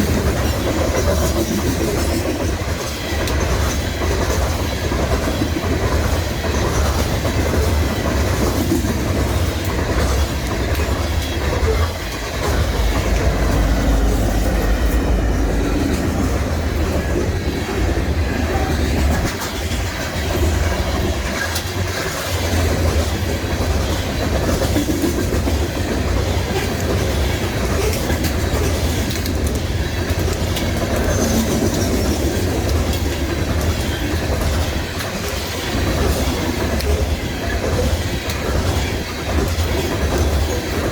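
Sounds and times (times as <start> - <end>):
freight train rumbling past: 0.0 - 40.9
wheels clacking over rails: 0.0 - 40.9.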